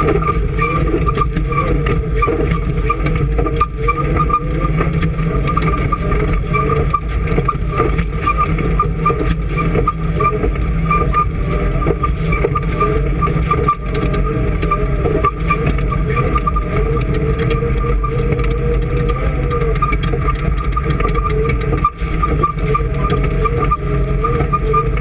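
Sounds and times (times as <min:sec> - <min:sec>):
clicks and rattles: 0:00.0 - 0:25.0
off-road vehicle engine running: 0:00.0 - 0:25.0.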